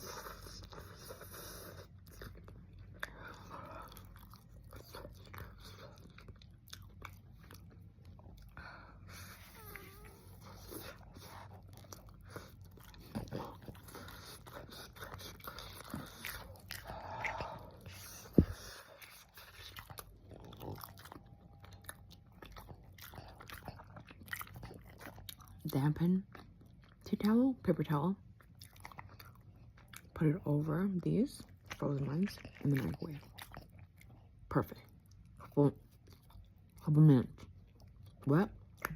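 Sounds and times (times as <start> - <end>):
person chewing food: 0.0 - 25.7, 28.4 - 30.1, 31.4 - 36.8, 37.4 - 38.9.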